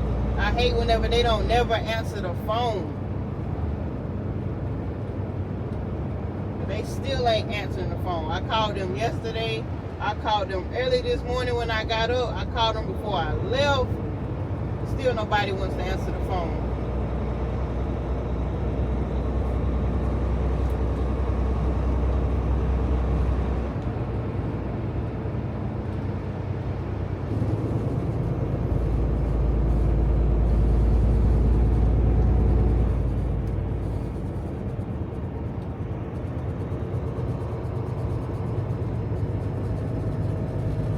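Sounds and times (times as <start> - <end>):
road noise: 0.0 - 40.9
truck diesel engine droning: 0.0 - 40.9.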